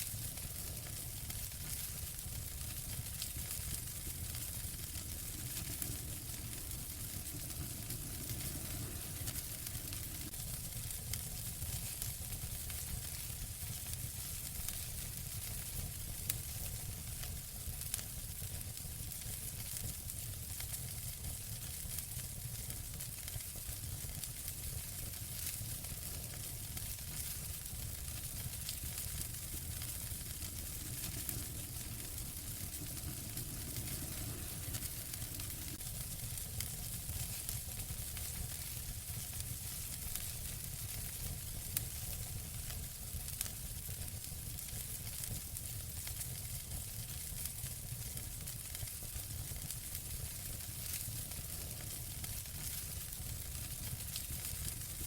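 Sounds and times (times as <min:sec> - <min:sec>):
fire hiss and low rumble: 0:00.0 - 0:55.0
wood fire crackling: 0:00.0 - 0:55.0.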